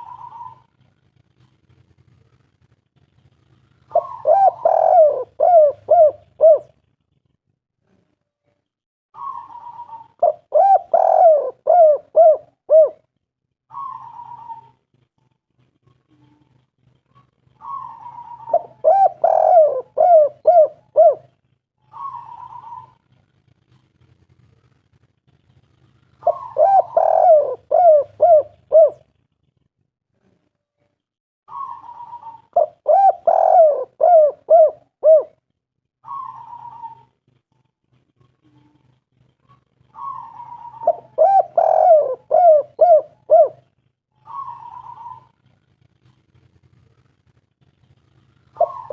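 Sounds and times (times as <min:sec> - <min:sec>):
dove cooing: 0:00.0 - 0:02.3, 0:03.4 - 0:06.8, 0:09.2 - 0:24.5, 0:25.7 - 0:29.2, 0:31.5 - 0:47.2, 0:47.8 - 0:48.9.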